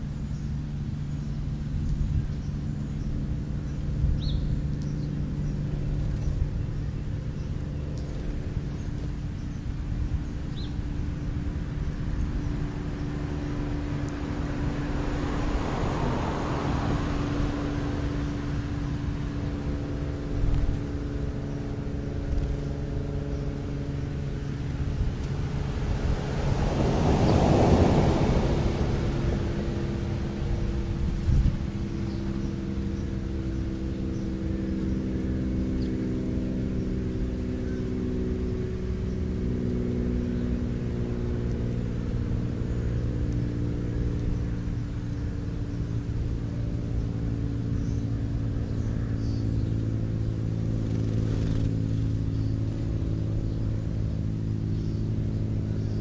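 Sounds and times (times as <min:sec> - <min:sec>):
engine drone: 0:00.0 - 0:56.0
passing vehicle rushing: 0:10.7 - 0:56.0.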